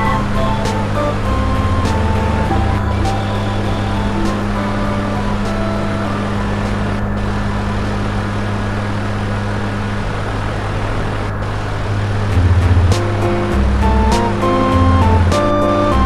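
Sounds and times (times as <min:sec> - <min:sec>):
ceiling fan whirring: 0:00.0 - 0:16.0.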